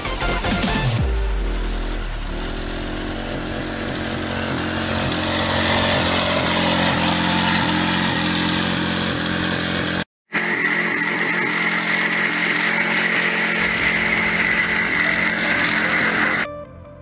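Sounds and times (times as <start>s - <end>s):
lawnmower engine running: 1.3s - 16.5s.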